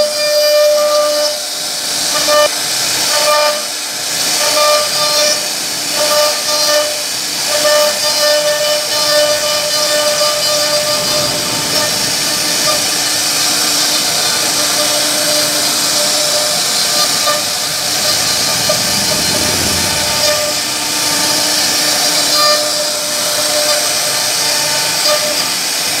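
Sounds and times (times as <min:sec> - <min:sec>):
cnc router cutting wood: 0:00.0 - 0:26.0.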